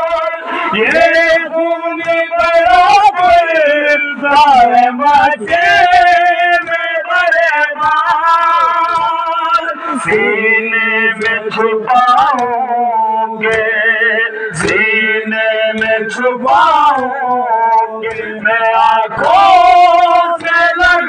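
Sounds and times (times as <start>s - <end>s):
man chanting a lament into microphone: 0.0s - 21.0s.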